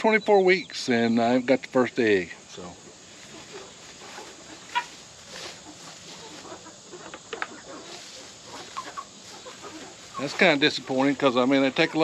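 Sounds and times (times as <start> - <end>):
faint background hiss: 0.0 - 12.0
hens clucking: 0.0 - 12.0.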